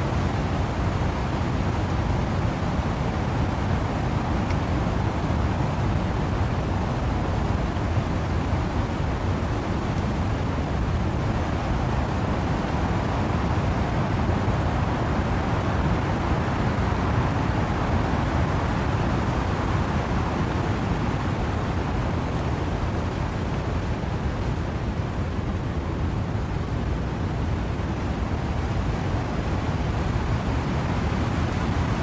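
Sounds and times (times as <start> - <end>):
wind and rain in trees: 0.0 - 32.0.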